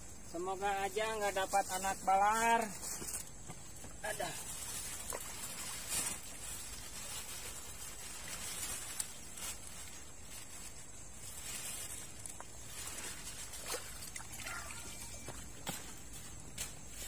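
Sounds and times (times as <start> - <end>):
riverbank hiss: 0.0 - 17.0.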